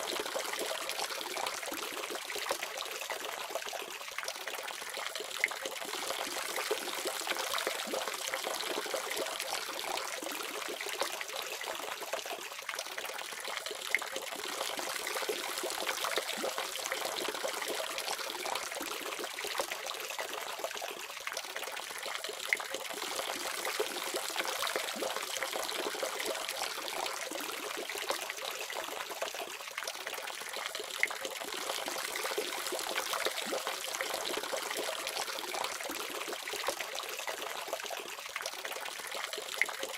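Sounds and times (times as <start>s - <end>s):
faint water drips: 0.0s - 39.9s.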